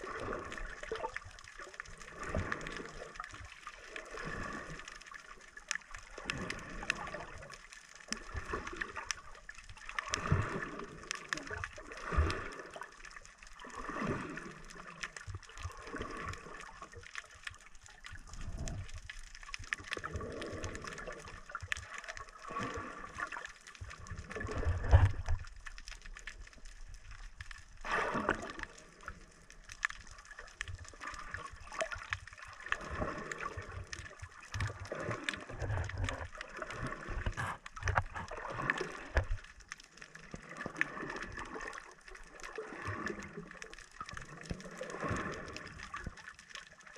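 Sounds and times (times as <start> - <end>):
water gurgling and sloshing: 0.0 - 46.9.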